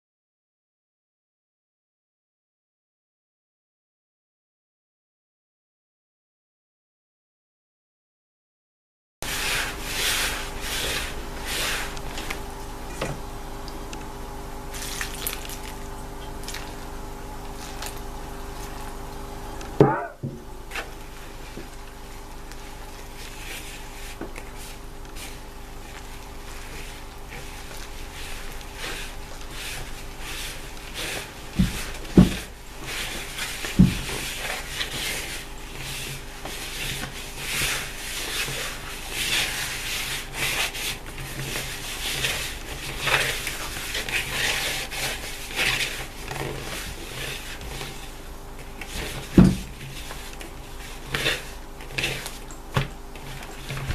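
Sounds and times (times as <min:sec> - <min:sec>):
fingers kneading dough in bowl: 0:09.2 - 0:53.9
steady low hum: 0:09.2 - 0:53.9.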